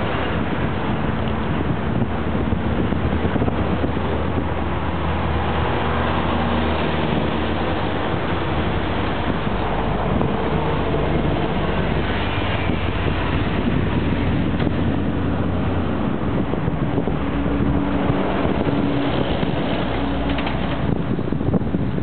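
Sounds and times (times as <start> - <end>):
distant locomotive engine drone: 0.0 - 22.0
wind on microphone: 0.0 - 22.0.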